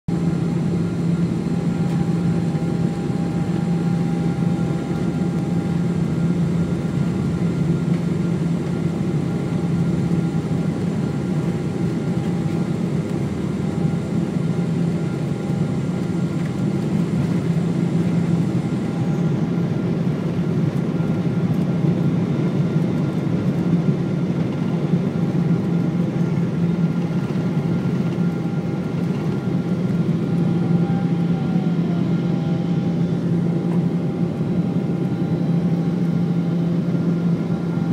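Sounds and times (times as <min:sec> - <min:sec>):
jet engines humming: 0:00.1 - 0:37.9.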